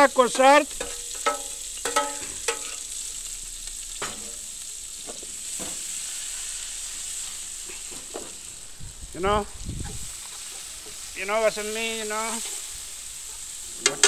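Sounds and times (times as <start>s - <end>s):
marinade sizzling in a pan: 0.0s - 14.0s.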